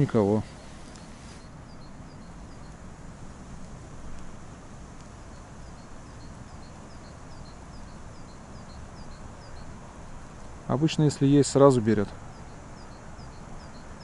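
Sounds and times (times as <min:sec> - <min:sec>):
small bird calling: 0:00.0 - 0:02.8, 0:05.2 - 0:14.0
low rumble of wind: 0:00.0 - 0:14.0.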